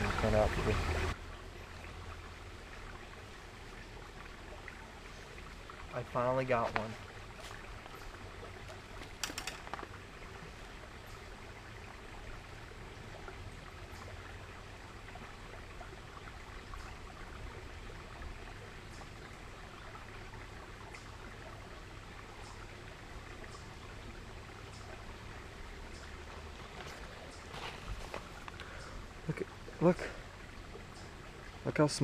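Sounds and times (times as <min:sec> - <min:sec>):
small creek running: 0:00.0 - 0:32.0.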